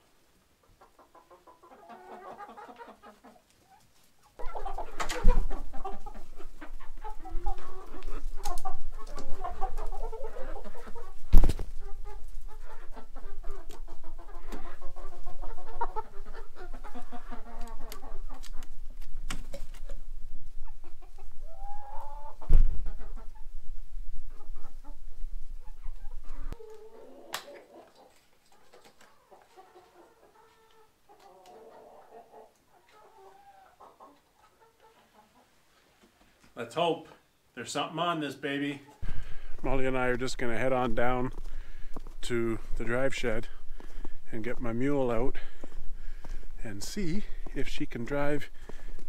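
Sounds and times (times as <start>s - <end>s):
chickens clucking: 0.3s - 37.2s, 37.8s - 49.0s.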